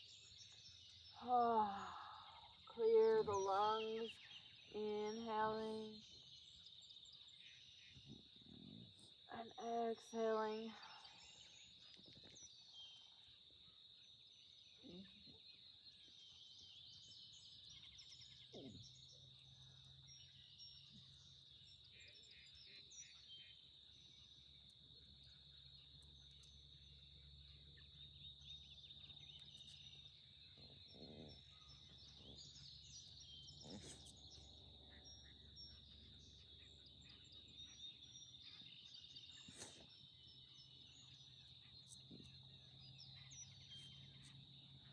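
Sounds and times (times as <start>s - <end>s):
small bird chirps: 0.0s - 44.9s.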